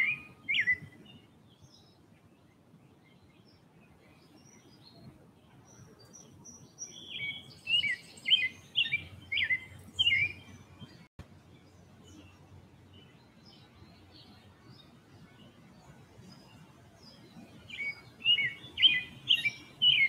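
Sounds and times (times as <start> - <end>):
faint distant bird calls: 0.0 - 20.0
songbird chirping: 0.0 - 20.0.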